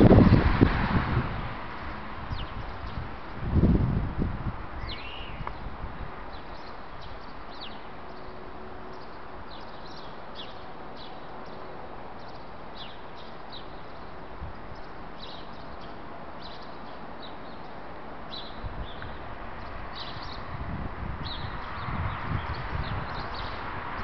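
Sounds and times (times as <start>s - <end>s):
steady background noise: 0.0s - 24.0s
small birds chirping: 1.8s - 3.1s, 4.8s - 5.7s, 6.3s - 20.6s, 21.2s - 24.0s.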